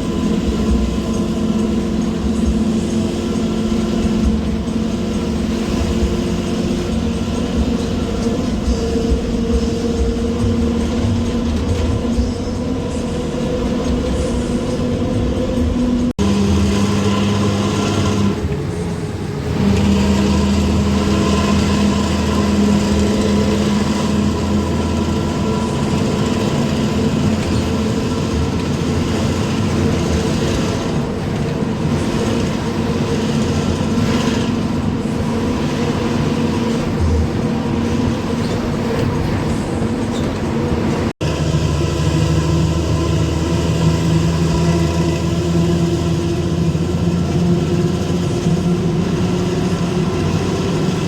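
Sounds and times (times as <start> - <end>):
bus engine with loud exhaust drone: 0.0 - 51.0.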